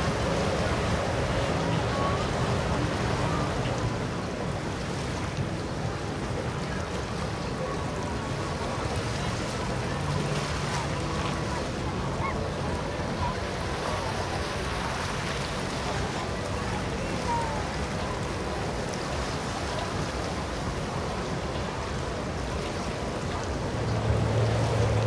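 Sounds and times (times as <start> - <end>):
distant boat engines humming: 0.0 - 25.0
water washing: 0.0 - 25.0.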